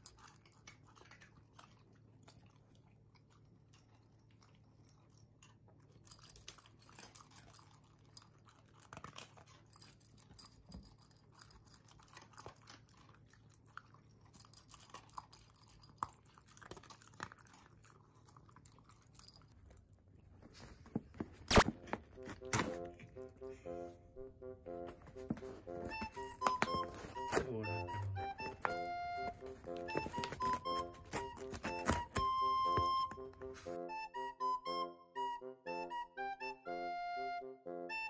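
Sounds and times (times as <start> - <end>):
dog crunching dry kibble: 0.0 - 23.2, 25.0 - 32.9.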